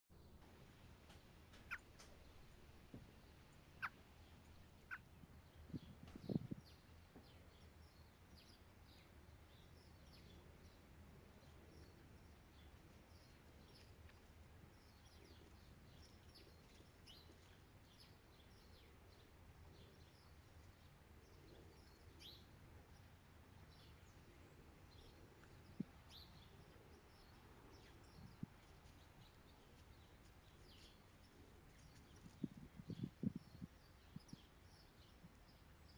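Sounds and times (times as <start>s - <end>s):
distant birds chirping: 0.1s - 35.9s.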